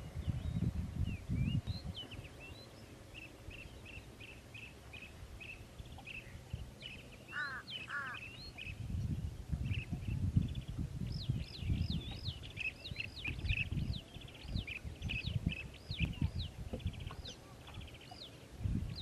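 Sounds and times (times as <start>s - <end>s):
birds chirping: 0.0s - 19.0s
harsh low bird calls: 0.0s - 19.0s.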